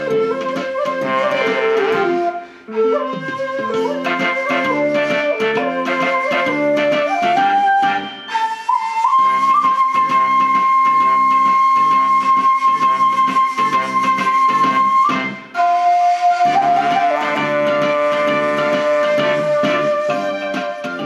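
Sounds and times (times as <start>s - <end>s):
bamboo flute melody: 0.0s - 21.0s
karaoke backing track: 0.0s - 21.0s.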